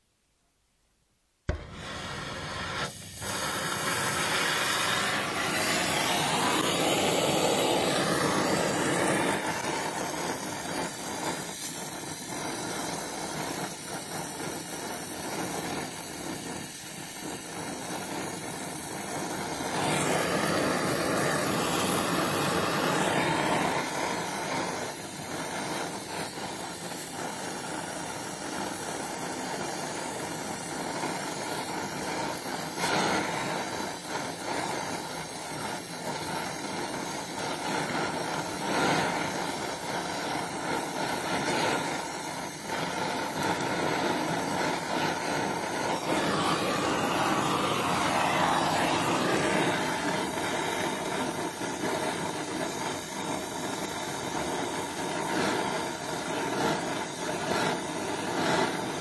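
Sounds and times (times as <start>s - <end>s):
welding torch flame hissing: 1.5s - 59.0s.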